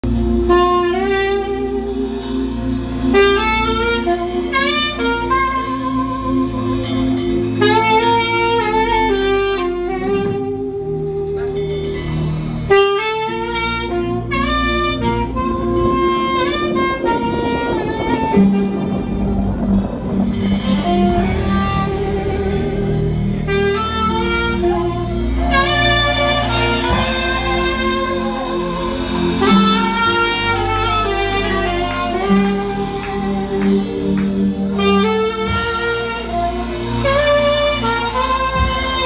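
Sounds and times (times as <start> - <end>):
alto saxophone melody: 0.0 - 39.0
low bass: 0.0 - 39.0
sustained keyboard chords: 0.0 - 39.0.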